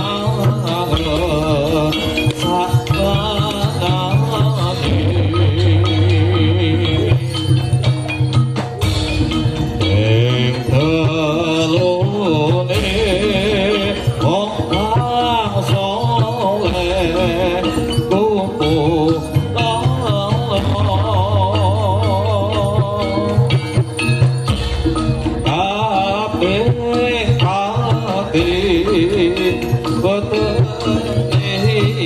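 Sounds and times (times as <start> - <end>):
drum and gong pattern: 0.0 - 32.0
gamelan melody: 0.0 - 32.0.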